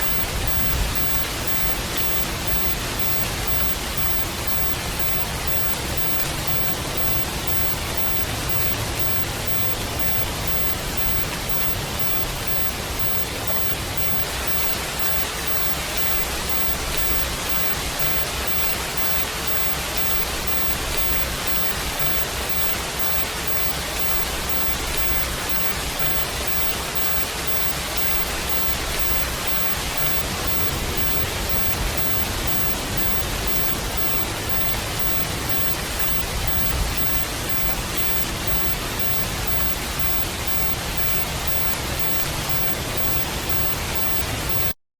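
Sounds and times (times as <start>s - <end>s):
steady rain hiss: 0.0s - 44.8s.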